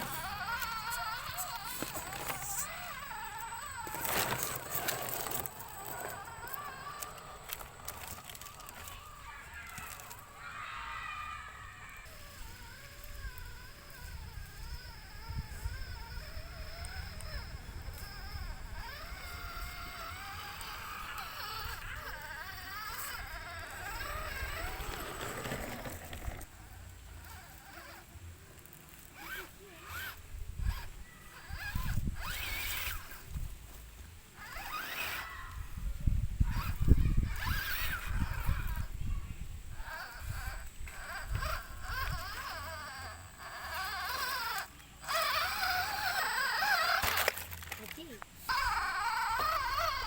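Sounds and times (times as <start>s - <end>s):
toy car electric motor whining: 0.0s - 50.0s.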